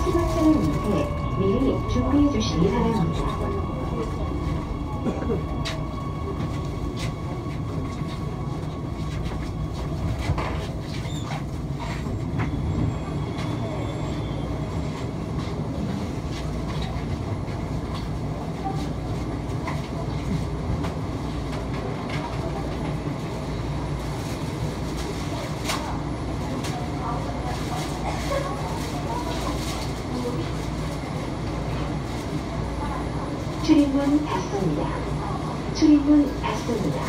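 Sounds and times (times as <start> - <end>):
train low rumble: 0.0 - 37.0.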